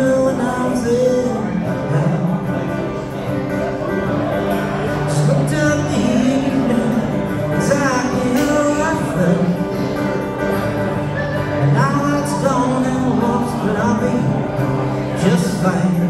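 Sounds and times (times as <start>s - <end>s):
man singing: 0.0s - 3.4s, 4.1s - 16.0s
acoustic guitar: 0.0s - 16.0s.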